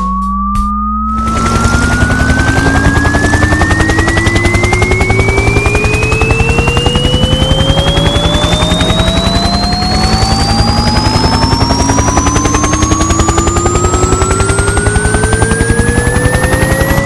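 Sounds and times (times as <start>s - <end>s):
rising sweep tones: 1.0s - 17.0s
helicopter rotor chop: 1.1s - 17.0s.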